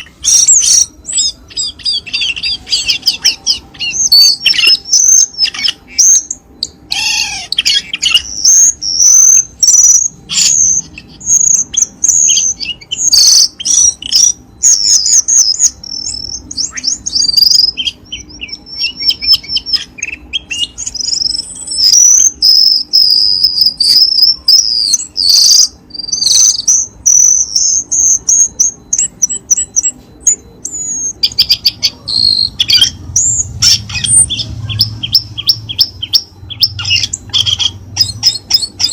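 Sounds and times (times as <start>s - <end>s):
bird chirps whistles and trills: 0.0s - 38.9s.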